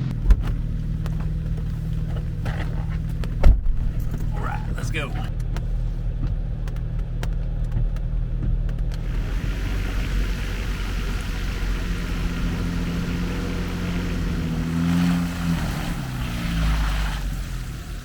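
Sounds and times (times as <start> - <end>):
road noise: 0.0 - 18.0
vehicle engine rumbling: 0.0 - 18.0.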